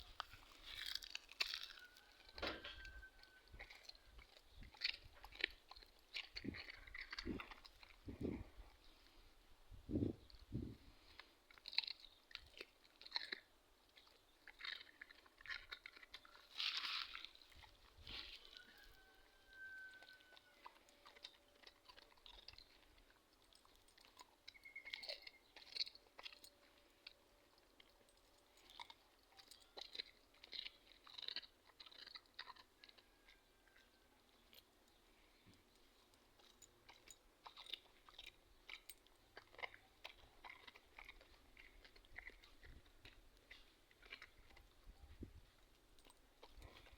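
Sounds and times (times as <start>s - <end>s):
dog crunching cucumber: 0.0s - 8.9s, 9.9s - 46.9s.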